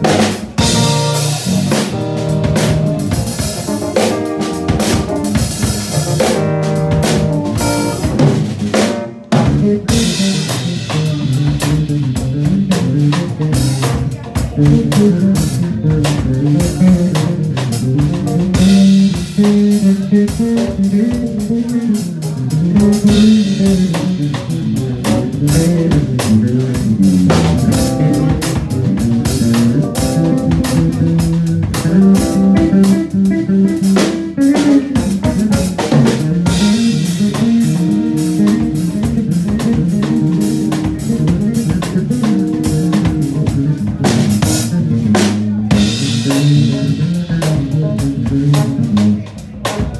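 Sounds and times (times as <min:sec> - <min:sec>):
drum kit with cymbals: 0:00.0 - 0:49.9
electric bass guitar: 0:00.0 - 0:49.9.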